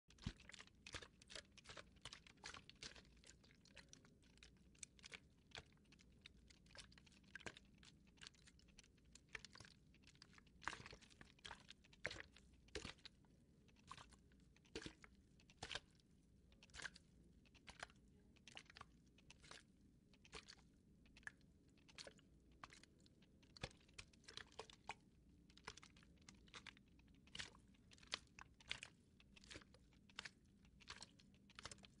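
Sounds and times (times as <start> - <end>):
wet sludge squelching: 0.2 - 16.0, 16.6 - 17.0, 17.6 - 20.6, 23.5 - 25.0, 25.6 - 32.0.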